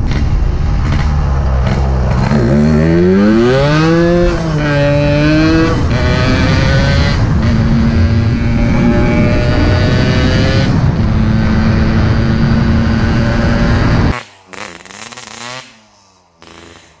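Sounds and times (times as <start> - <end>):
two-stroke motorcycle engine revving: 0.0 - 17.0.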